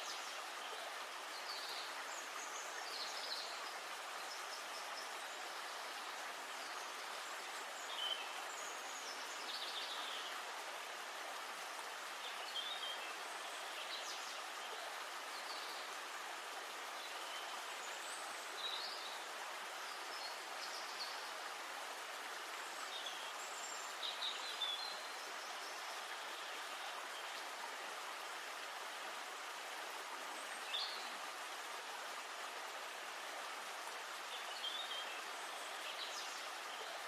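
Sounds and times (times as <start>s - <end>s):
rush of running water: 0.0s - 37.0s.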